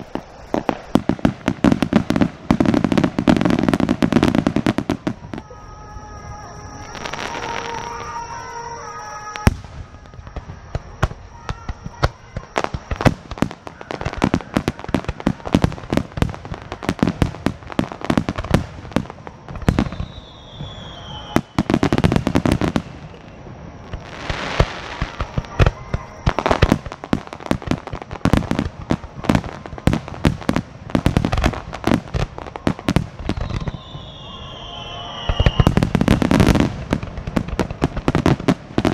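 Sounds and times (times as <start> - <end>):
fireworks bursting: 0.0 - 38.9
fireworks crackle: 0.0 - 38.9
fireworks falling whistle: 0.0 - 38.9.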